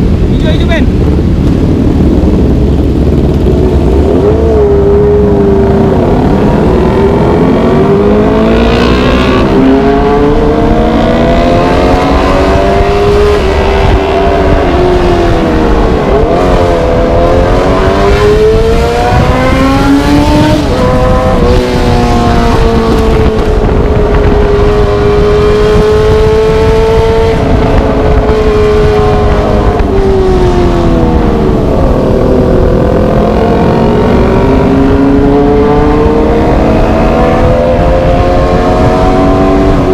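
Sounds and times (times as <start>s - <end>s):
low rumble of wind: 0.0s - 39.9s
motorcycle engine revving: 0.0s - 39.9s.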